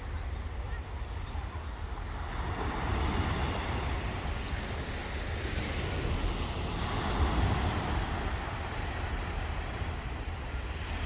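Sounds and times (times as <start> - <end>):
small waves washing onto beach: 0.0 - 11.0
wind rumble on microphone: 0.0 - 11.0.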